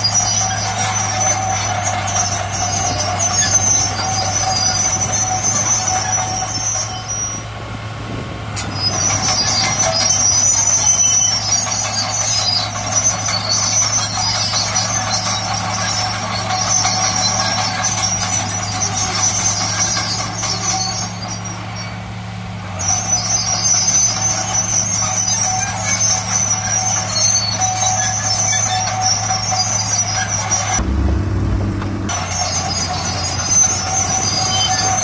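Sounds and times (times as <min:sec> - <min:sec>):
metallic squealing and clanking: 0:00.0 - 0:07.6, 0:08.6 - 0:22.1, 0:22.7 - 0:35.0
heavy diesel engine droning: 0:00.0 - 0:35.0.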